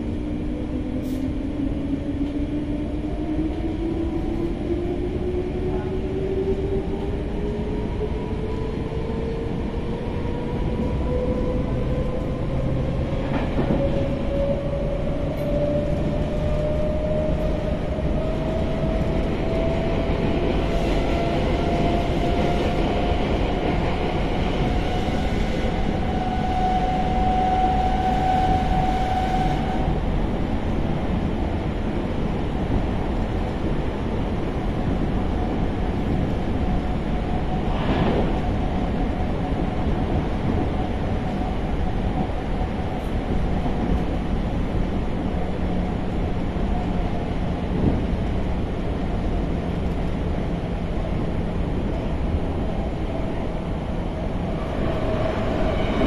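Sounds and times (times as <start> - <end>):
wheels rumbling on rails: 0.0 - 56.0.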